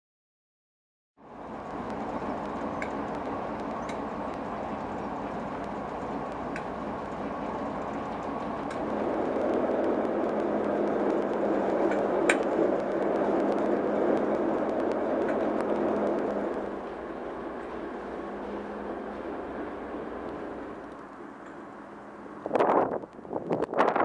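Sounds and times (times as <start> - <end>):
diesel engine running: 1.2 - 24.0.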